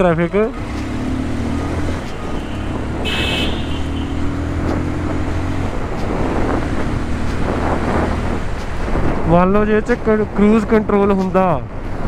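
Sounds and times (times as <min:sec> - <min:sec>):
road and traffic noise: 0:00.0 - 0:12.0.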